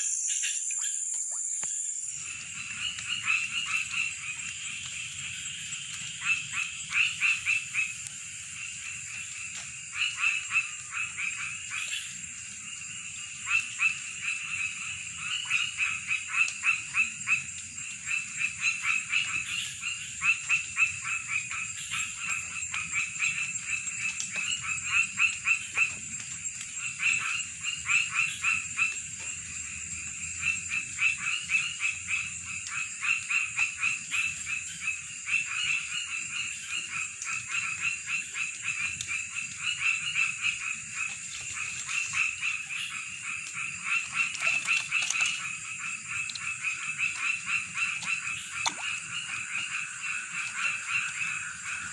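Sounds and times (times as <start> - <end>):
frogs croaking: 0.0 - 51.9.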